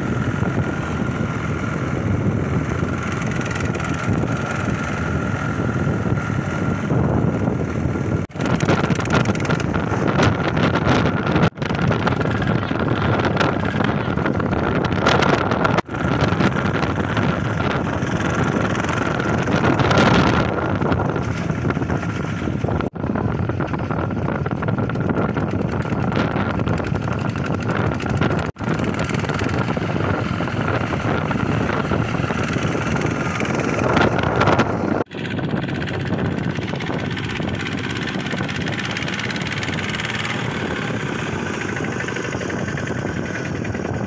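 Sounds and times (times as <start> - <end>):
diesel tractor engine running: 0.0 - 44.0.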